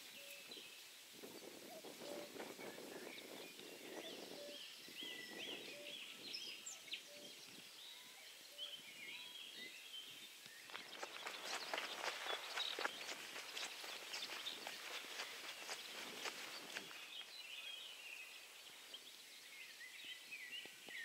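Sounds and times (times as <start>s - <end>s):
faint outdoor background noise: 0.0s - 21.0s
birds chirping: 1.6s - 21.0s.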